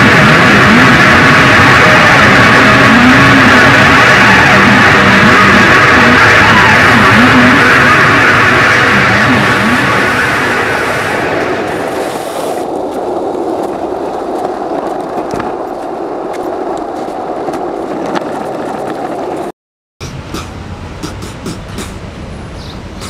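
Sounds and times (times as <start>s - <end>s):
skateboard wheels rolling on pavement: 0.0s - 19.5s.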